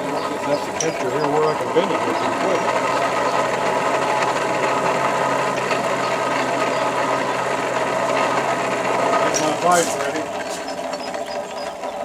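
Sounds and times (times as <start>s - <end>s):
electric air blower humming: 0.0s - 11.6s.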